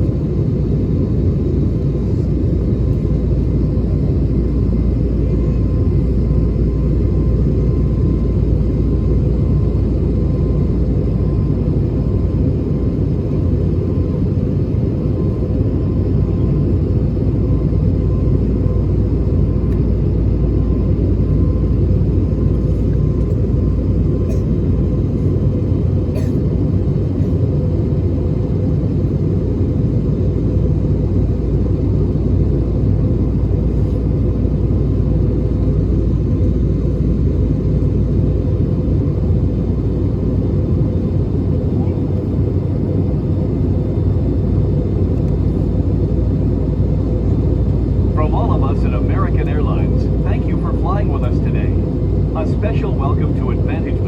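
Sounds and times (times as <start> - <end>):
aircraft cabin engine roar: 0.0 - 54.0
steady hum: 0.0 - 54.0.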